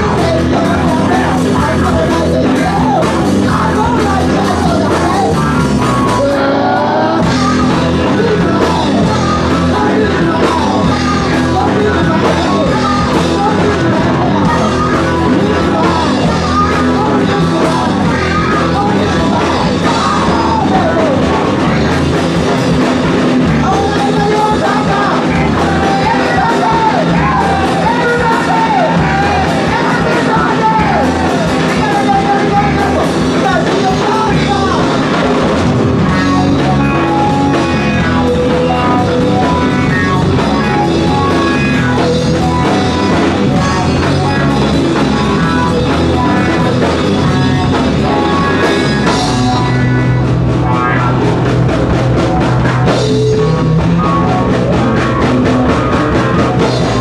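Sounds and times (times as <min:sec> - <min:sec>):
drum kit: 0:00.0 - 0:57.0
electric guitar: 0:00.0 - 0:57.0
keyboard: 0:00.0 - 0:57.0
person singing: 0:00.0 - 0:57.0.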